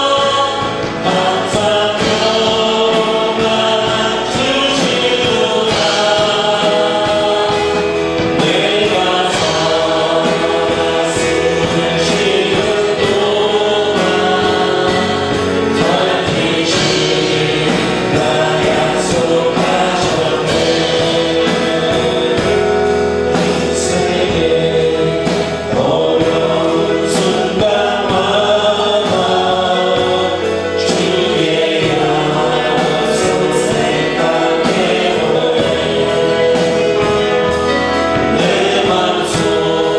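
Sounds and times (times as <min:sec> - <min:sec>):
choir singing worship song: 0:00.0 - 0:39.9
instrumental accompaniment with beat: 0:00.0 - 0:39.9.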